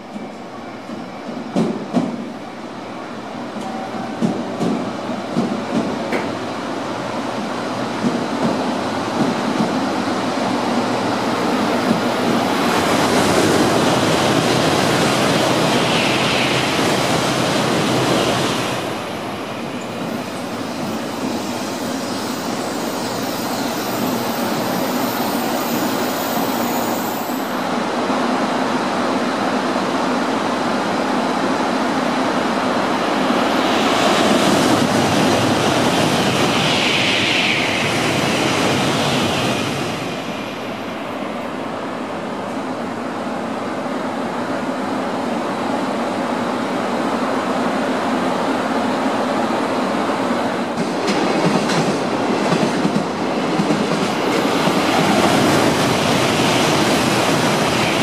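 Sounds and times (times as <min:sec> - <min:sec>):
train rushing past: 0:00.0 - 0:58.0.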